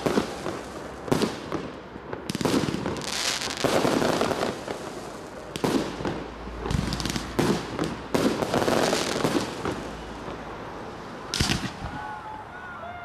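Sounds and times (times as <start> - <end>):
fireworks bangs: 0.0 - 10.4, 11.3 - 12.4
fireworks crackling: 0.0 - 10.6, 11.2 - 12.4.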